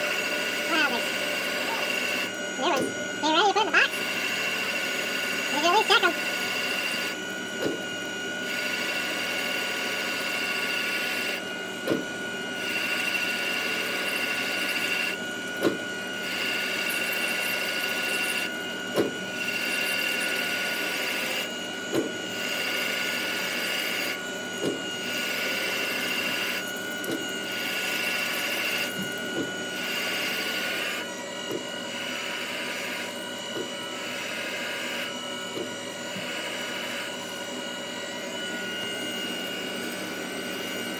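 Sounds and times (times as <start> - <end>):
lathe spindle whine: 0.0 - 40.9.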